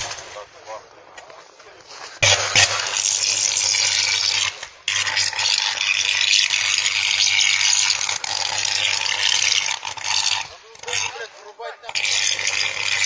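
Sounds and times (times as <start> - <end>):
electrical arc crackling and hissing: 0.0 - 0.6, 2.2 - 13.0.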